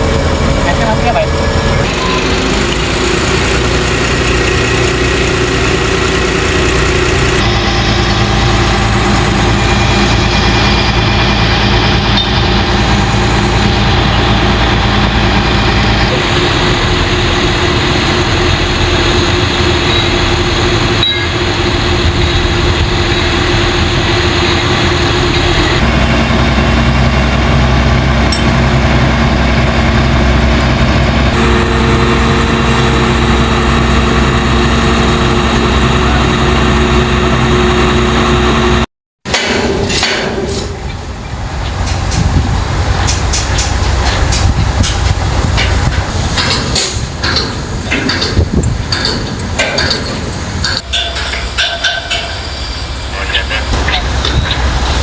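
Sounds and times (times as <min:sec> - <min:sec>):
diesel machinery engines running: 0:00.0 - 0:55.0.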